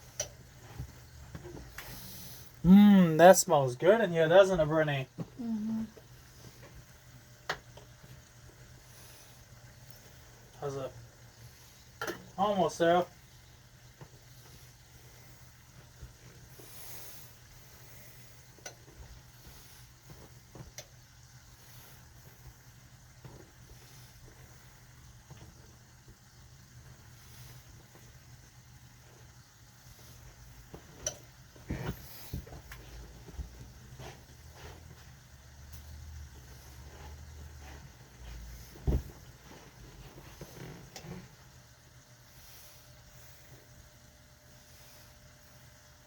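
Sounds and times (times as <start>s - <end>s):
food sizzling: 0.0s - 45.4s
steady low hum: 0.0s - 46.0s.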